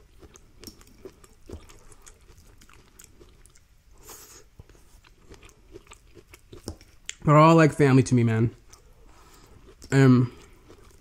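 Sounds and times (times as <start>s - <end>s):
person chewing food: 0.0s - 7.2s, 8.5s - 11.0s.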